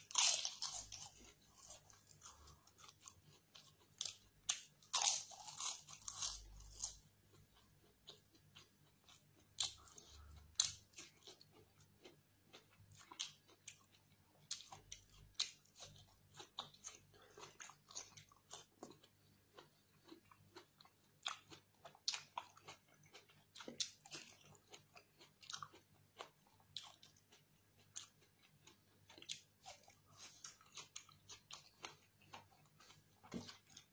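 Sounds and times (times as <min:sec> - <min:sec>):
person chewing: 0:00.0 - 0:33.9.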